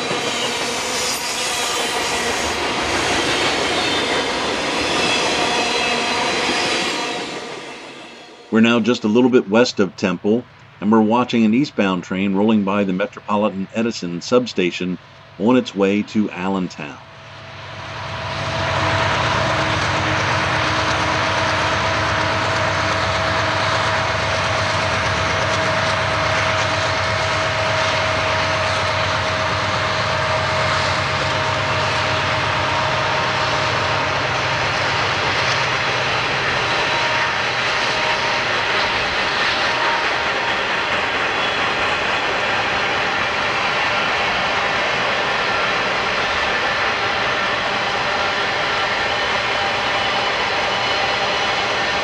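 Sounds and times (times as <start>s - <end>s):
wheels rumbling on rail: 0.0s - 11.6s, 16.8s - 52.0s
diesel locomotive engines: 0.0s - 52.0s
steady whine: 0.0s - 52.0s.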